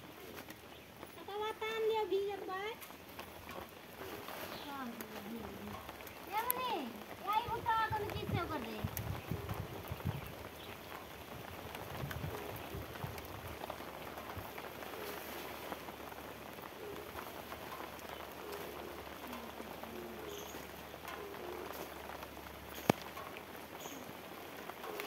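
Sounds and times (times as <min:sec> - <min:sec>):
rain on pavement: 0:00.0 - 0:25.0.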